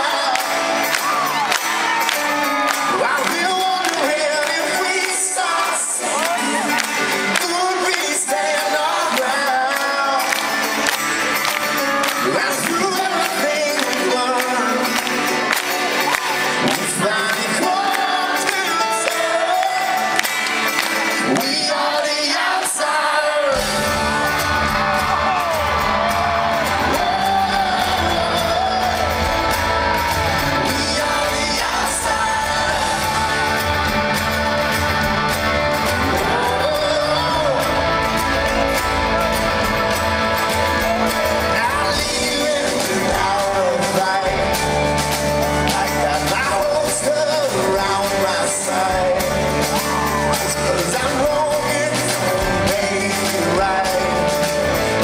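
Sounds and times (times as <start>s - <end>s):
man singing: 0.0s - 1.5s, 2.2s - 55.0s
electric guitar: 0.0s - 55.0s
live rock band: 0.0s - 55.0s.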